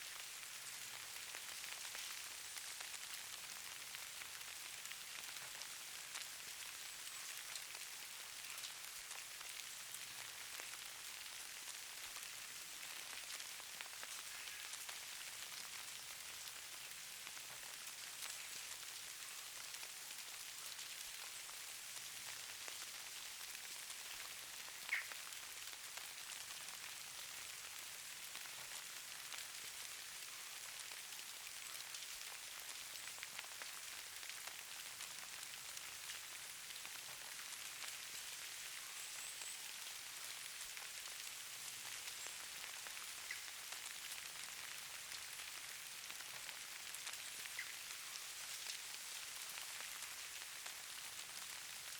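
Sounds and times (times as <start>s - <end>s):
rain patter and hiss: 0.0s - 51.9s.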